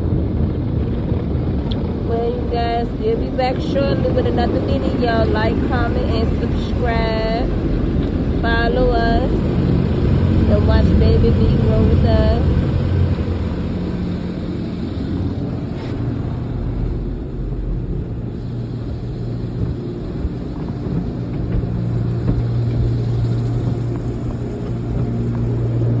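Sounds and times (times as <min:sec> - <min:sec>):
car wash hum and rumble: 0:00.0 - 0:26.0.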